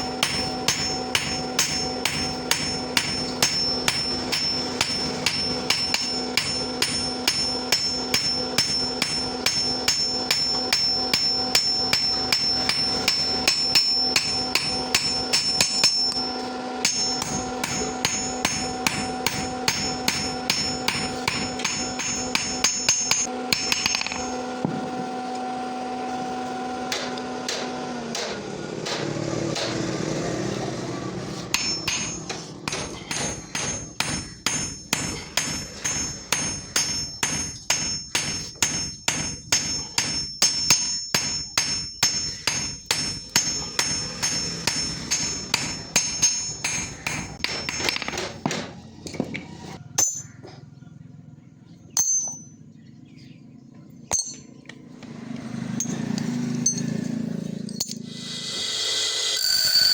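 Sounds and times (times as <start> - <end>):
hammer striking steel on anvil: 0.0 - 25.0, 26.8 - 29.9, 31.3 - 50.6, 52.0 - 52.6, 54.1 - 54.5.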